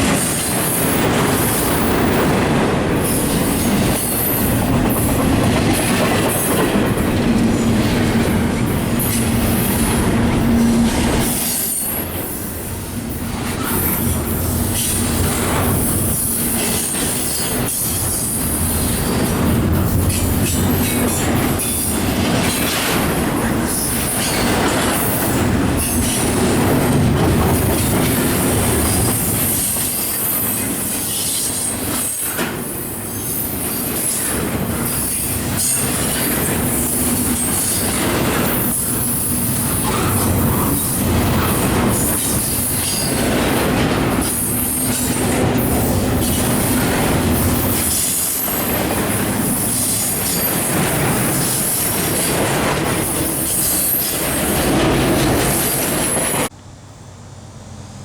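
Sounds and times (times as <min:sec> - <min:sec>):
freight train cars rolling: 0:00.0 - 0:56.6
wheels clacking on rail: 0:00.0 - 0:56.6.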